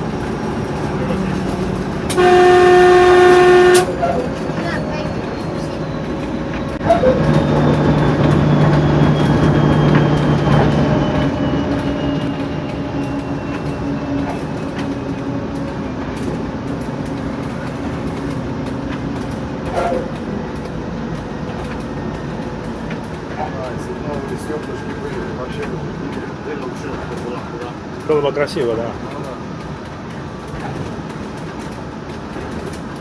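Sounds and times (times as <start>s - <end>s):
diesel locomotive engine running: 0.0s - 33.0s.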